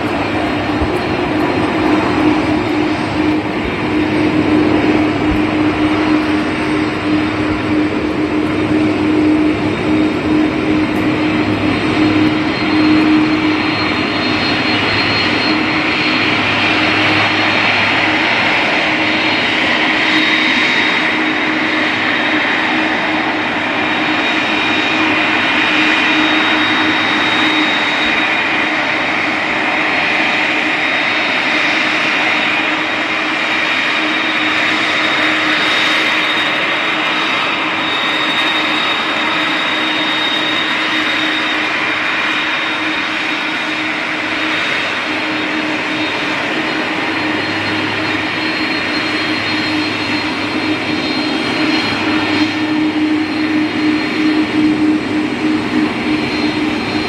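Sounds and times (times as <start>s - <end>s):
high whine: 0.0s - 57.0s
jet engines running: 0.0s - 57.0s.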